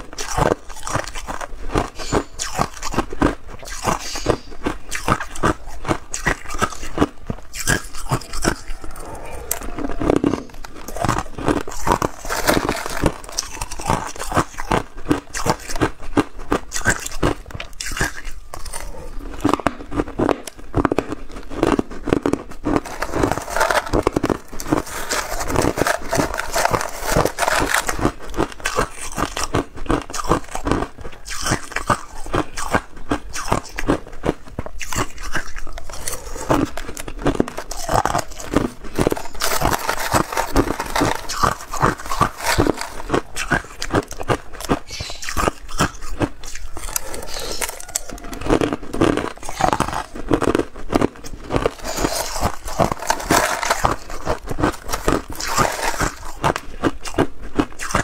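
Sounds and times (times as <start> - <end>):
ice crunching and chewing: 0.0 - 58.0.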